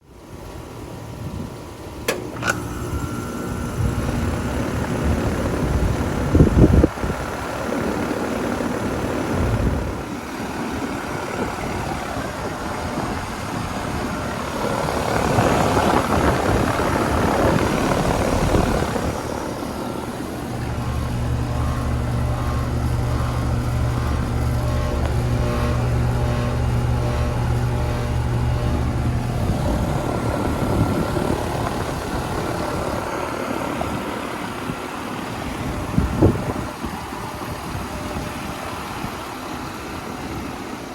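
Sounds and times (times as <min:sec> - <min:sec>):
air conditioner fan rushing: 0:00.0 - 0:40.9
strong low hum: 0:02.8 - 0:39.2.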